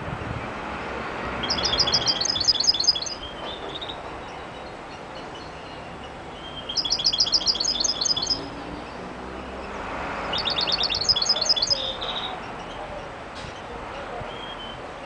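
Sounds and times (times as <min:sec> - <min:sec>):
goldfinch twittering song: 0:01.3 - 0:14.9.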